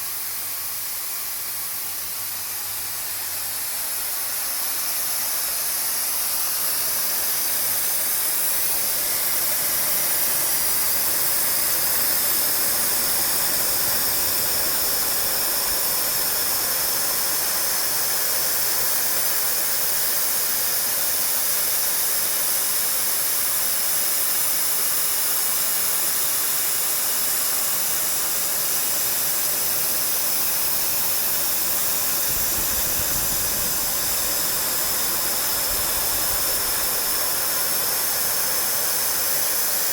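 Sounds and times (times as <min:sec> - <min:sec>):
cnc machine hissing: 0:00.0 - 0:39.9.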